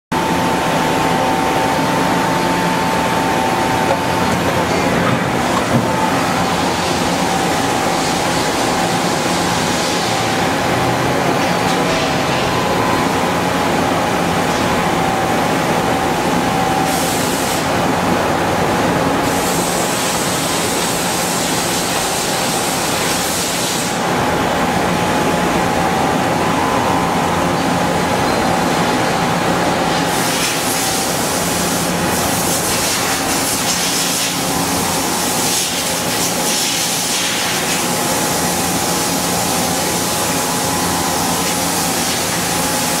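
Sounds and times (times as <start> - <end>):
machine hum with whine: 0.0 - 43.0.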